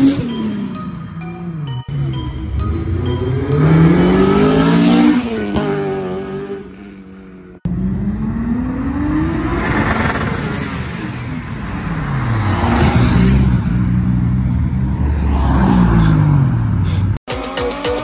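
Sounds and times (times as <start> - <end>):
car engine revving: 1.9 - 18.0.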